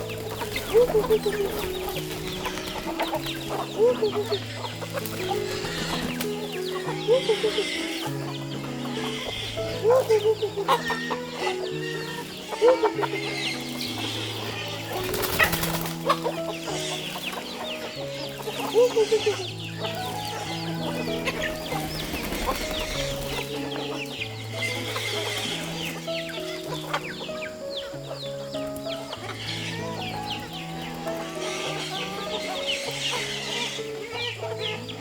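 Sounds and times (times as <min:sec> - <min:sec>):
background music: 0:00.0 - 0:35.0
chickens clucking: 0:00.0 - 0:35.0.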